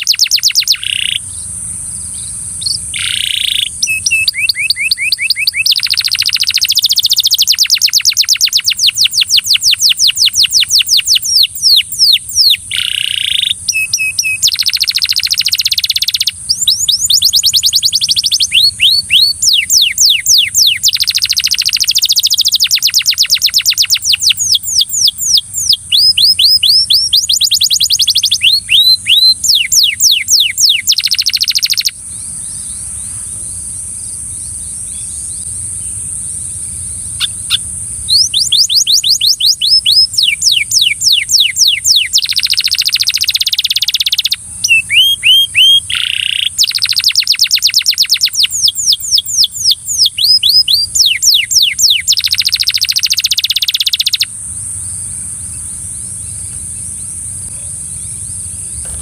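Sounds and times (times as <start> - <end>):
canary singing trills: 0.0 - 59.0
steady high hiss: 0.0 - 59.0.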